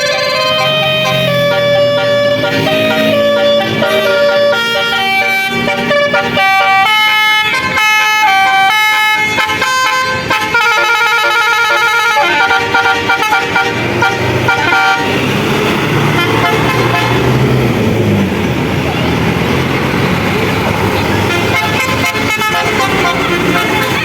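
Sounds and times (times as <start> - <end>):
musical air horn playing a tune: 0.0 - 15.4, 16.0 - 17.3, 21.2 - 24.0
engine and traffic noise: 0.0 - 24.0.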